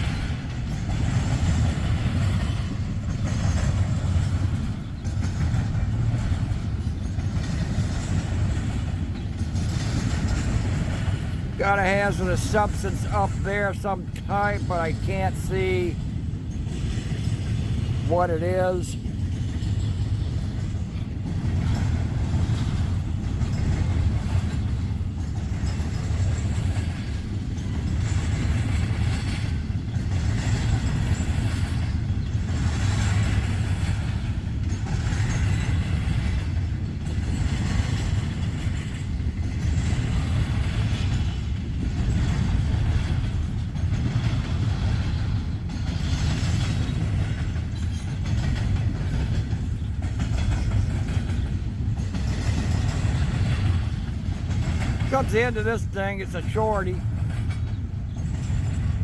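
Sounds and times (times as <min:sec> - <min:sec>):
freight train cars rolling past: 0:00.0 - 0:59.0.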